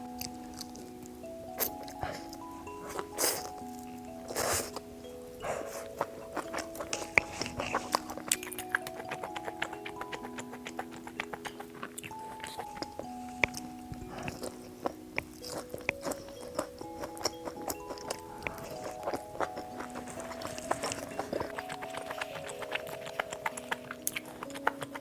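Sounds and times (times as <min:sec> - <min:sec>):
background music with held notes: 0:00.0 - 0:25.0
person chewing crunchy food: 0:00.0 - 0:25.0.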